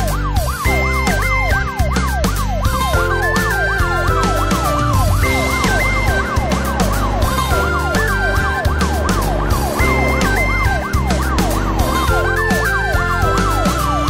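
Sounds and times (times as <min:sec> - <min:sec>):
music with bass beat: 0:00.0 - 0:14.0
police siren wailing: 0:00.0 - 0:14.0.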